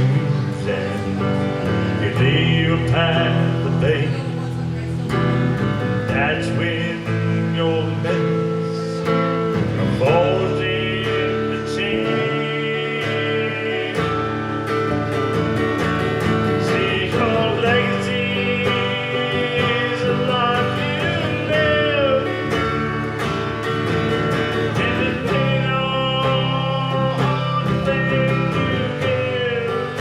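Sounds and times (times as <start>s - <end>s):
live country guitar: 0.0s - 30.0s.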